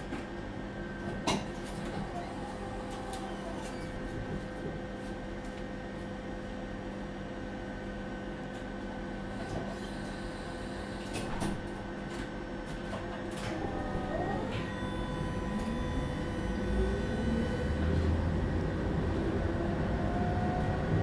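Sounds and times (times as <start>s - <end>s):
tram electrical hum: 0.0s - 21.0s.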